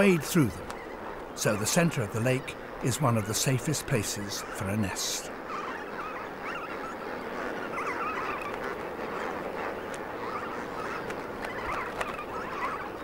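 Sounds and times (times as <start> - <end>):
flamingo colony calling: 0.0 - 13.0.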